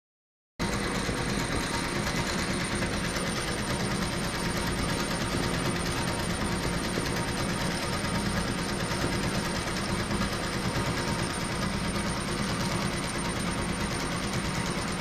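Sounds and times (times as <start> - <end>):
embroidery machine stitching: 0.6 - 15.0.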